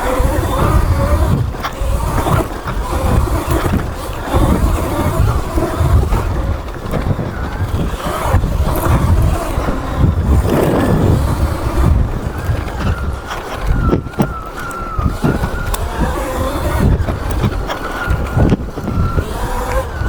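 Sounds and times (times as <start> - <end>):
high electric motor whine: 0.0 - 20.0
riding rumble: 0.0 - 20.0
wind buffeting microphone: 0.0 - 20.0.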